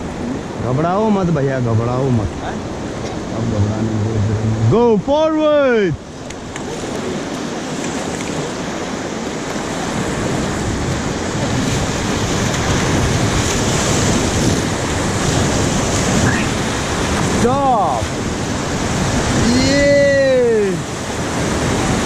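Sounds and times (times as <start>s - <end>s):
river rapid rushing: 0.0s - 22.0s.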